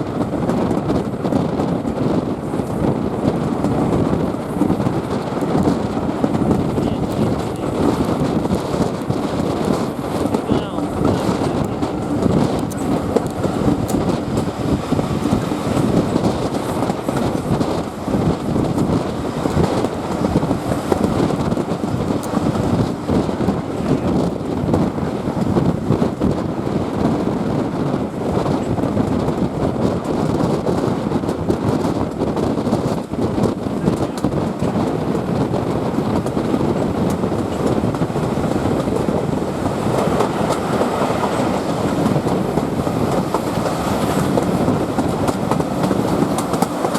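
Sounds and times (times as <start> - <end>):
steam train rumble: 0.0 - 46.9
wheels clattering over rails: 0.4 - 46.9.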